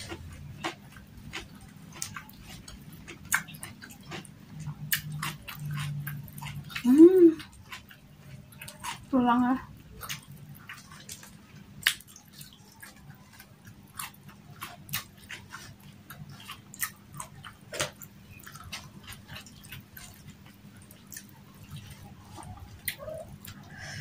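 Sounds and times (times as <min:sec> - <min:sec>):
mouth clicks and chewing smacks: 0:00.0 - 0:09.1, 0:09.9 - 0:23.8.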